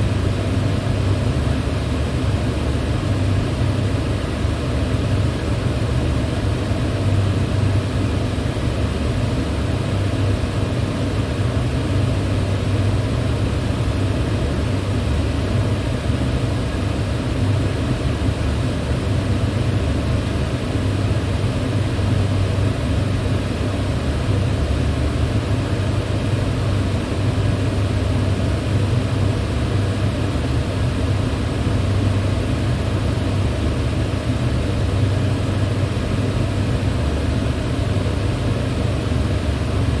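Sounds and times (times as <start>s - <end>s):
electric fan running: 0.0s - 40.0s.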